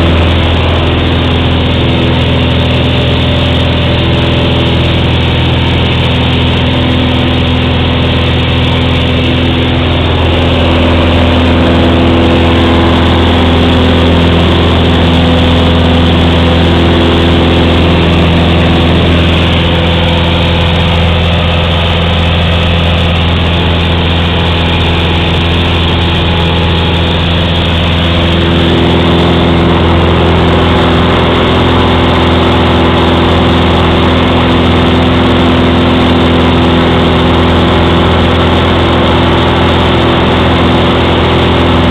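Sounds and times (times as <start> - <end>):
airplane engine droning: 0.0 - 41.9.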